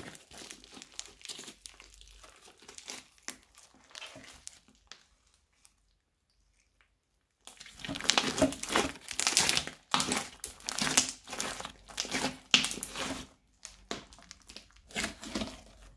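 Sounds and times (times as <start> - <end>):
crunchy slime crackling: 0.0 - 6.0, 6.7 - 15.9.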